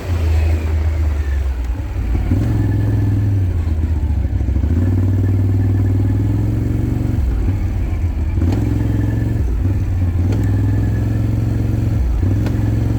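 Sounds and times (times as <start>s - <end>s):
off-road vehicle engine running: 0.0s - 12.9s
vehicle knocking and rattling: 0.9s - 12.9s.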